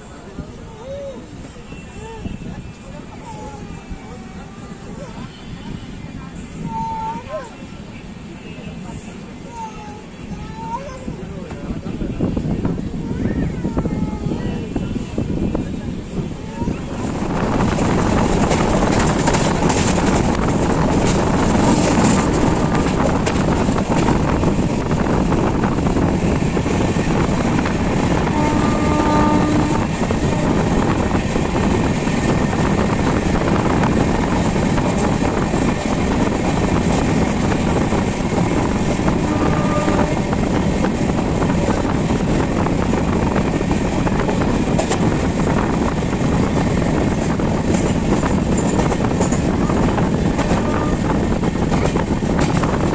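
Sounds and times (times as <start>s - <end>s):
train rumbling on track: 0.0s - 52.9s.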